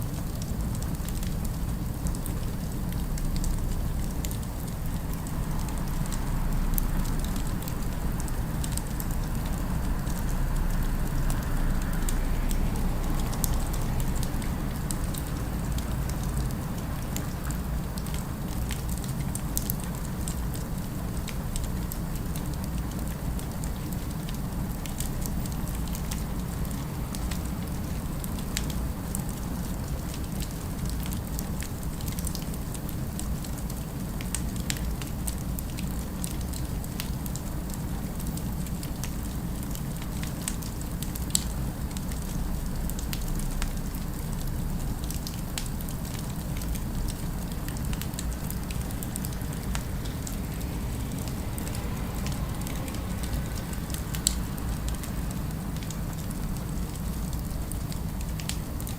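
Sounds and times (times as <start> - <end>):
fire crackling and popping: 0.0 - 58.9
low city rumble: 0.0 - 58.9.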